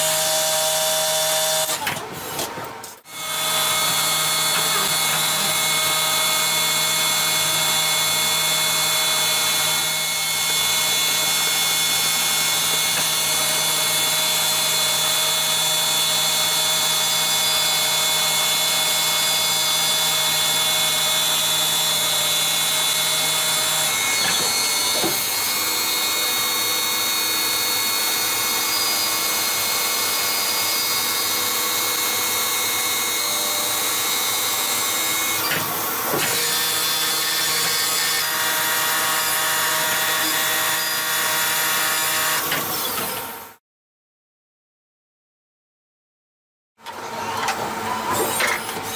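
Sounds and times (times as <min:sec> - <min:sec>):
lathe milling metal whine: 0:03.2 - 0:42.5.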